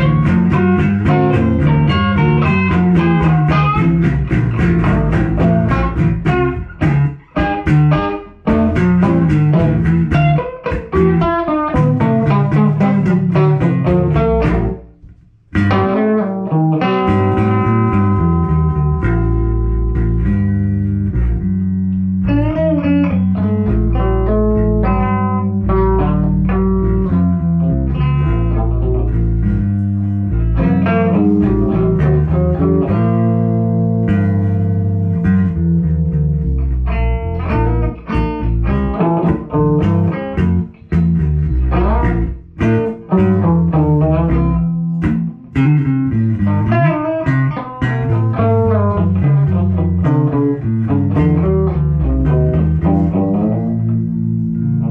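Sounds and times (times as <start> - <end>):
picked guitar notes: 0.0 - 54.9
sustained bass line: 0.0 - 54.9.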